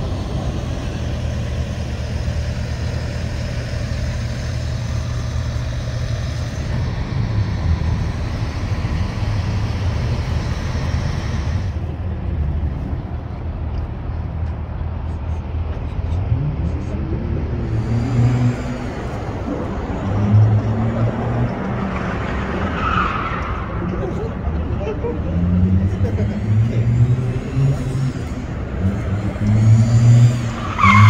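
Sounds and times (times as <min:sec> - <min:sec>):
background traffic: 0:00.0 - 0:31.0
car and truck engines idling: 0:00.0 - 0:31.0.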